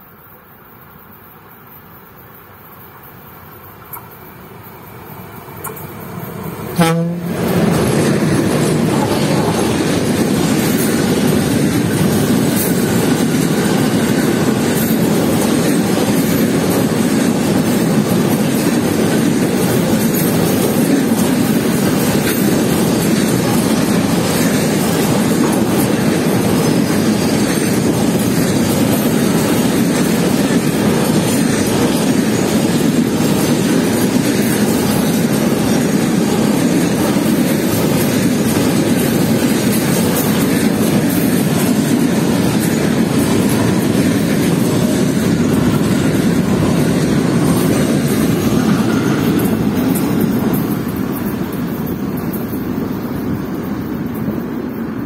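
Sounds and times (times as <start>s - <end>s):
steel train wheels rumbling on rails: 0.0s - 55.0s.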